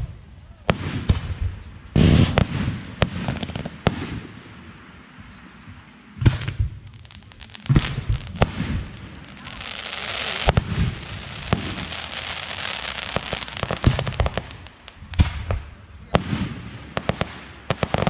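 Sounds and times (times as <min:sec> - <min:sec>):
crackling hiss: 0:00.0 - 0:18.0
fireworks bangs: 0:00.0 - 0:18.0.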